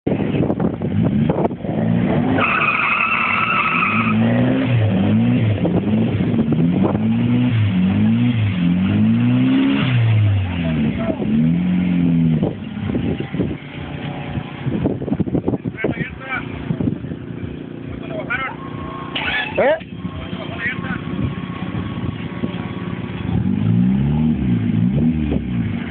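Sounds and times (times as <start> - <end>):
car engine revving: 0.1 - 25.9.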